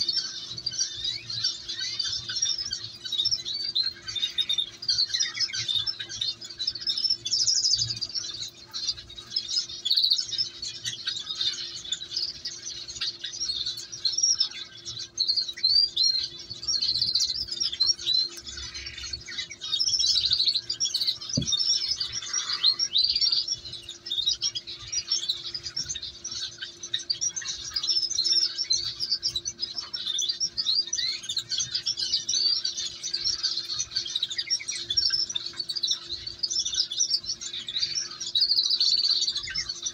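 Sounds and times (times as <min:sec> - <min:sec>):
canaries chirping: 0:00.0 - 0:39.9
faint steady hum: 0:00.0 - 0:39.9.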